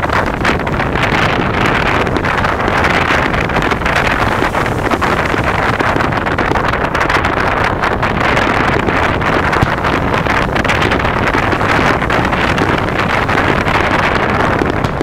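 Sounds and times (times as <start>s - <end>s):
wind rushing on microphone: 0.0s - 15.0s.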